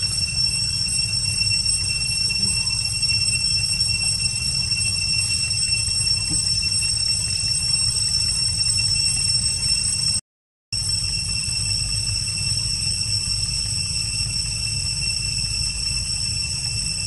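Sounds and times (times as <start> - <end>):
high-pitched whine: 0.0 - 10.2, 10.8 - 17.0.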